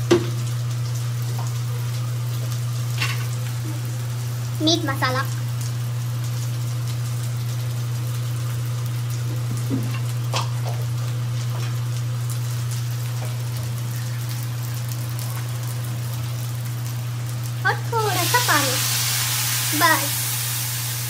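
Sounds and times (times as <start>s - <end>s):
spices and onions sizzling in oil: 0.0s - 21.0s.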